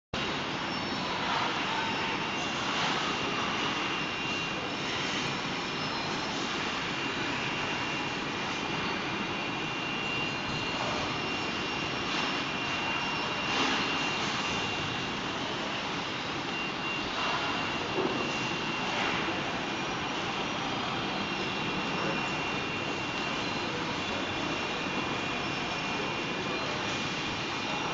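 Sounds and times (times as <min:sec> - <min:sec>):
factory machinery noise: 0:00.2 - 0:27.9
high-pitched whine: 0:00.2 - 0:27.9
roller conveyors running: 0:00.3 - 0:27.9.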